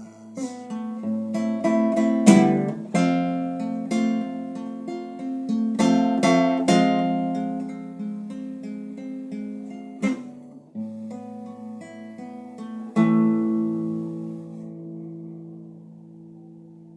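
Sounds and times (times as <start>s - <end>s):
acoustic guitar picking and strumming: 0.0s - 16.9s.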